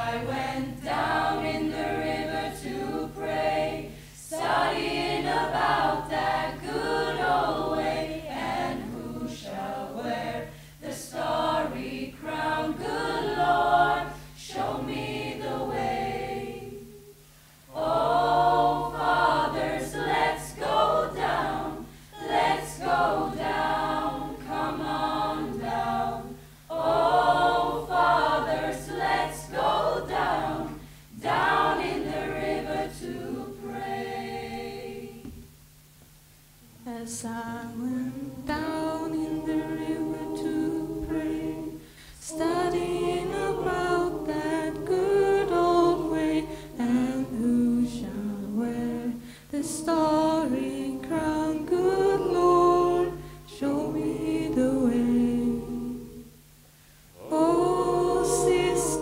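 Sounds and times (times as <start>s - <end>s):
choir singing: 0.0s - 35.4s, 36.8s - 56.3s, 57.2s - 59.0s.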